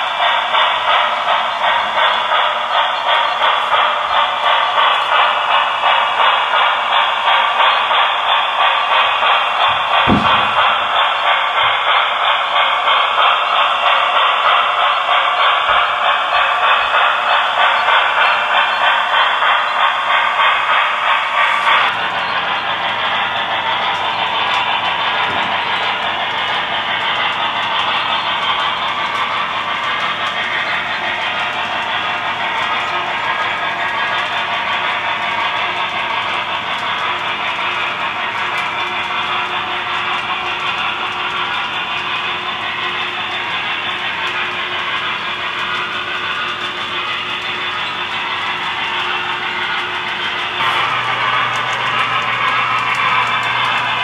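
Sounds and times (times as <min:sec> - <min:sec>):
model steam locomotive chuffing: 0:00.0 - 0:54.0.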